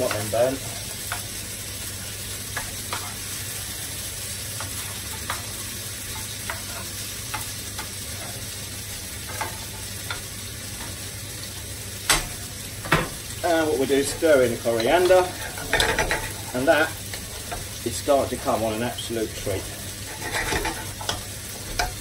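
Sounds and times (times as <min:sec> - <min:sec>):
chicken sizzling in a pan: 0:00.0 - 0:22.0.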